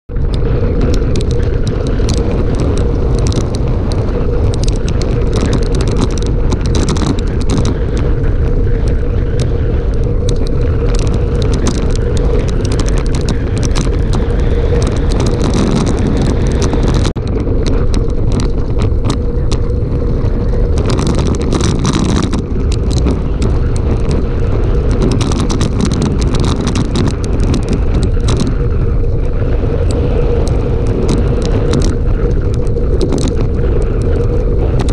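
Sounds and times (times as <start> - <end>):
wind buffeting microphone: 0.0 - 34.9
steady hum: 0.1 - 34.9.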